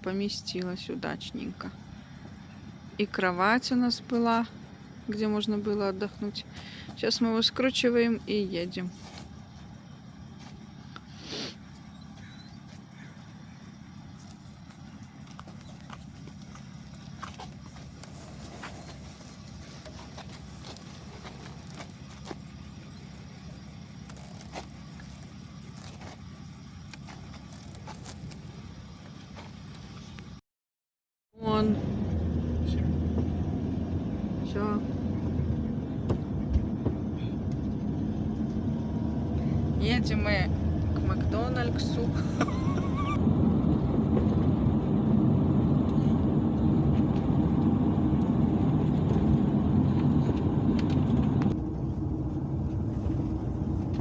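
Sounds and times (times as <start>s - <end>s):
van engine humming: 0.0s - 30.4s, 31.4s - 54.0s.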